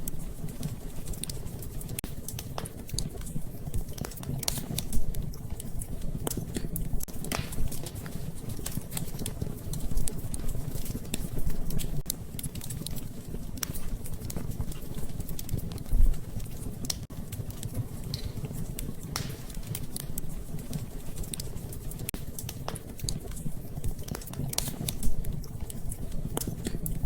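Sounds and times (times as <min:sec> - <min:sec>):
low steady fire rumble: 0:00.0 - 0:27.0
wood fire crackles and pops: 0:00.0 - 0:27.0.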